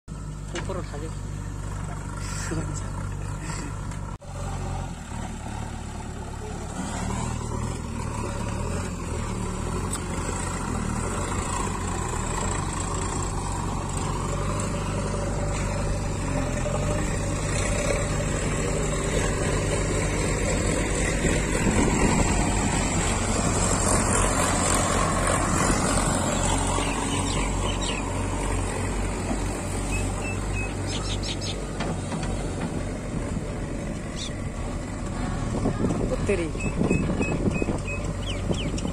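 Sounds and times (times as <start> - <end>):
diesel engine under load: 0.1 - 38.9.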